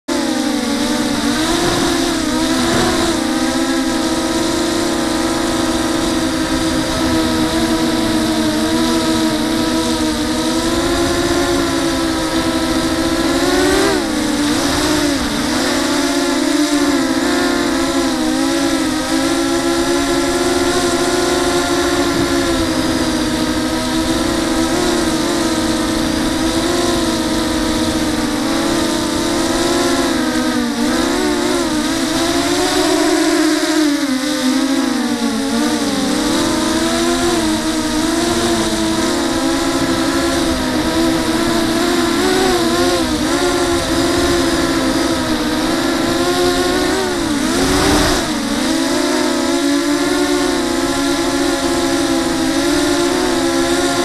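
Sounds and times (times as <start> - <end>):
quadcopter motors buzzing whine: 0.0 - 54.0.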